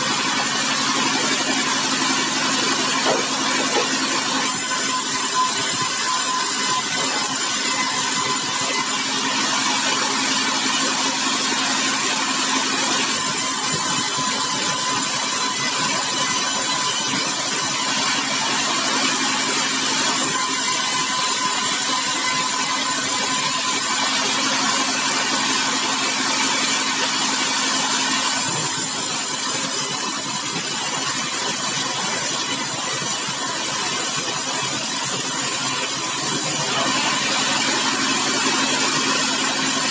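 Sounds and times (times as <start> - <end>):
saw whirring: 0.0 - 39.9
sawmill machine hum: 0.0 - 39.9.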